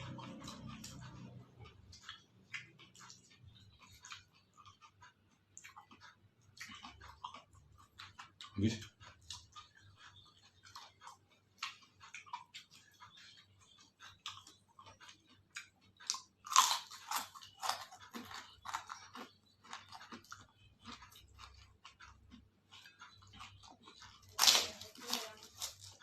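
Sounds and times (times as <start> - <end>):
person chewing crunchy food: 0.0 - 26.0.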